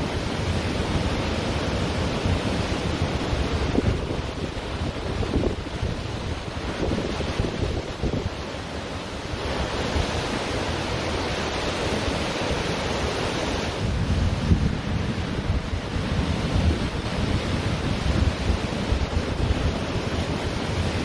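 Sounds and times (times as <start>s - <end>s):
ocean surf on beach: 0.0s - 21.0s
wind rumbling on microphone: 0.0s - 21.0s.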